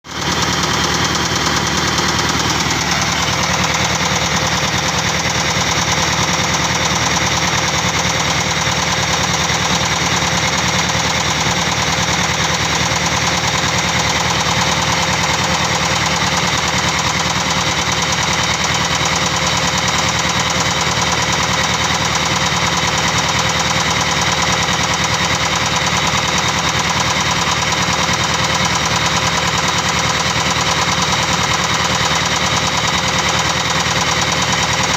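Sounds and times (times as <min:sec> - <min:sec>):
diesel engine knocking: 0:00.1 - 0:34.9.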